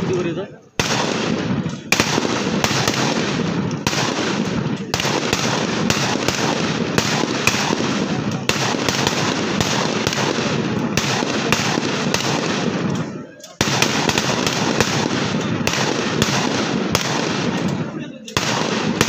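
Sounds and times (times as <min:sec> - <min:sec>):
gunfire crackling: 0:00.0 - 0:19.0
sharp single gunshots: 0:00.8 - 0:13.0, 0:13.6 - 0:19.0.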